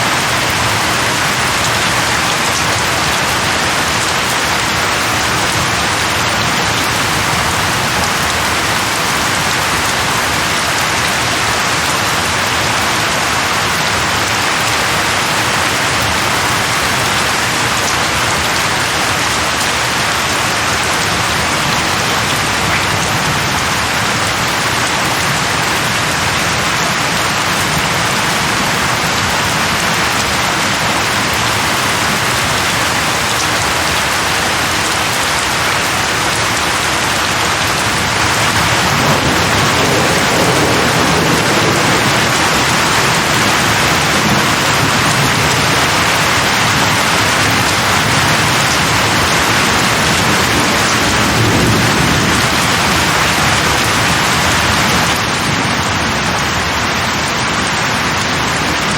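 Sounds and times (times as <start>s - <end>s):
rain falling on leaves: 0.0s - 58.9s.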